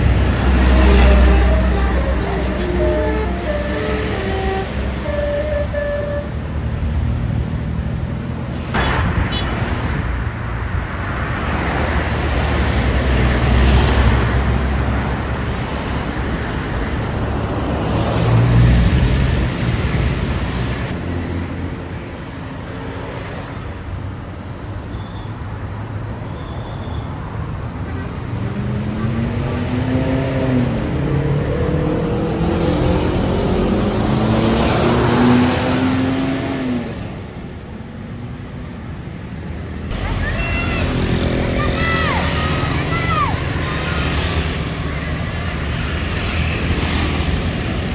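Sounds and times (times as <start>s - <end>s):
heavy vehicle engines running: 0.0s - 47.9s
road traffic passing: 0.0s - 47.9s.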